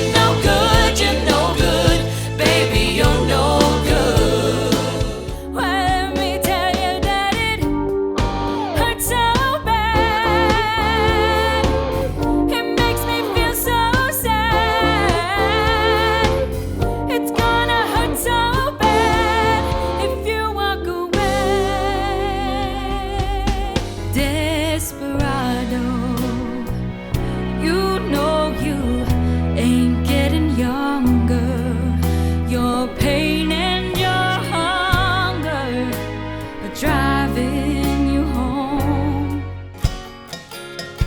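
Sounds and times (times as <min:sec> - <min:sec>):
lead singer with vibrato: 0:00.0 - 0:07.7, 0:08.6 - 0:39.5
band playing: 0:00.0 - 0:40.6.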